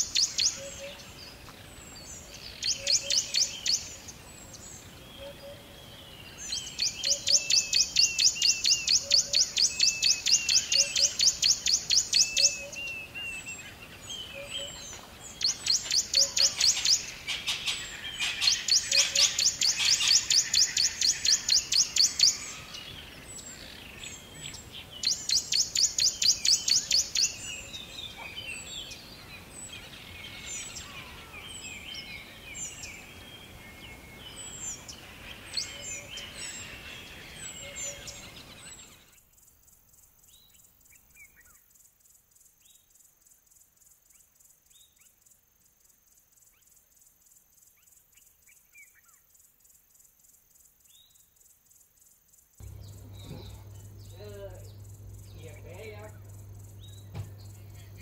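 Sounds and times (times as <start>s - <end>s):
songbirds trilling: 0.0s - 41.7s, 52.3s - 58.0s
crickets chirping: 0.0s - 58.0s.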